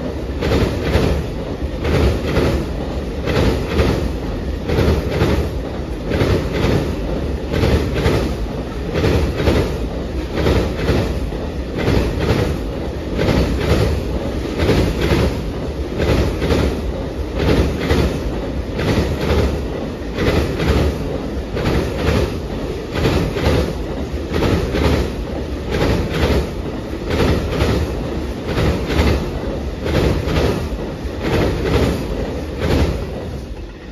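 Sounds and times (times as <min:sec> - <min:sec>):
steel wheels clacking on rails: 0:00.0 - 0:33.9
train cars rumbling past: 0:00.0 - 0:33.9.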